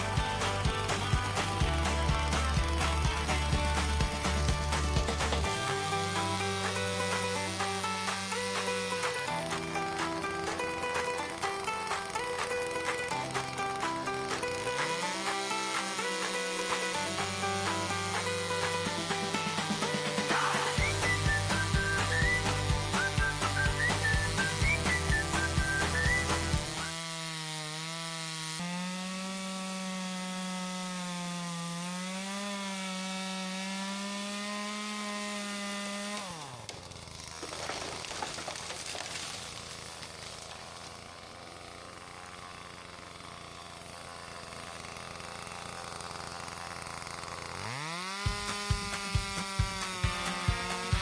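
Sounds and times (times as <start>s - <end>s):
chainsaw cutting log: 0.0s - 51.0s.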